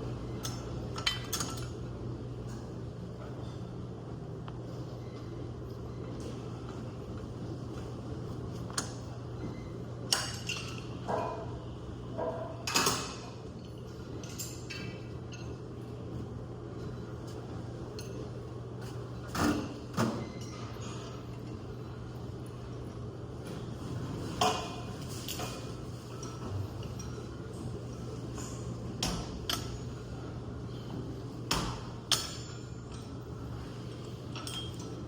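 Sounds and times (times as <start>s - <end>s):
gym background hum: 0.0s - 35.0s.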